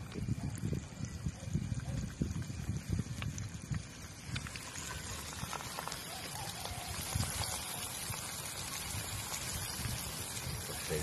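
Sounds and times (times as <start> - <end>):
leaves frying in hot oil: 0.0 - 11.0.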